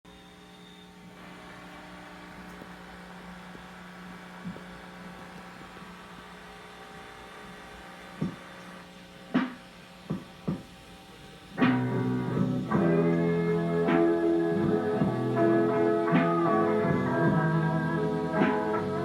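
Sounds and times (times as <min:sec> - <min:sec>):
electrical hum: 0:00.1 - 0:19.0.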